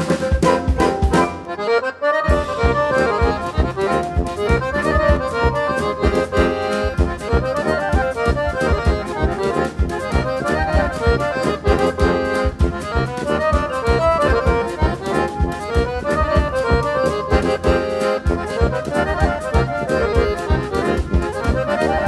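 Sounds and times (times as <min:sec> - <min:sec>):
accordion band music: 0:00.0 - 0:22.0
steady beat: 0:00.0 - 0:22.0.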